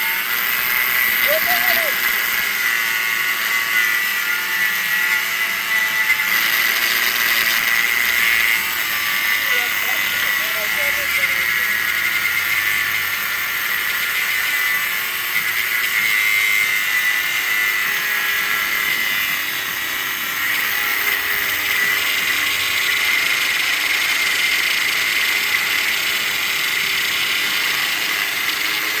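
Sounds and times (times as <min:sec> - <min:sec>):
machine grinding through steel rod: 0:00.0 - 0:29.0.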